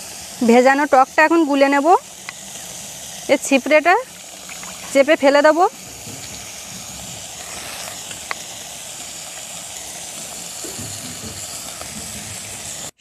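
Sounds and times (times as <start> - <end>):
pan sizzling: 0.0 - 13.0.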